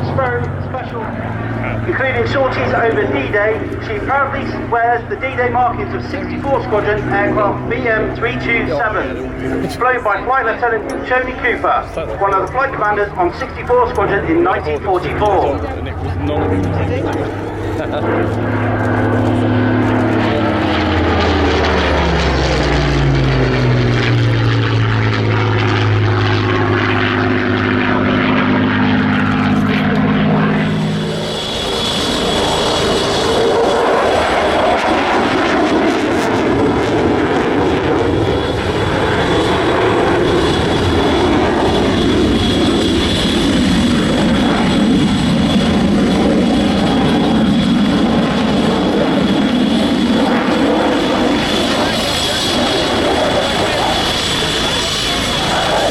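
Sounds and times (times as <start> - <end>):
propeller plane flying past: 0.0 - 55.9
rushing engine with high whine: 0.0 - 55.9.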